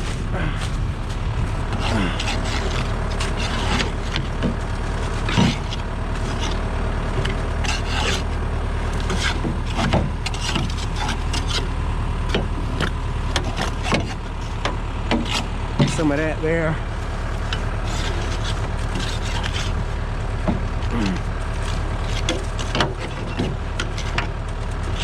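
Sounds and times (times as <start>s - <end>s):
hoe scraping mower deck: 0.0s - 25.0s
low engine hum: 0.0s - 25.0s.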